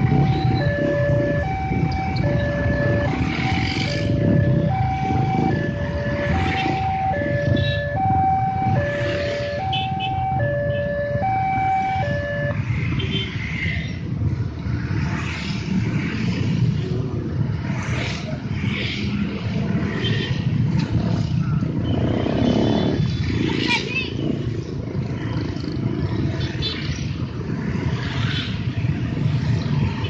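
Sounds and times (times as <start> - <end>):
motorcycle engines: 0.0 - 30.0.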